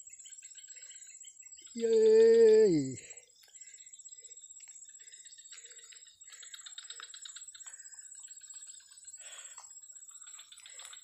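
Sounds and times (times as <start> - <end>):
birds chirping: 0.0 - 11.0
insects buzzing: 0.0 - 11.0.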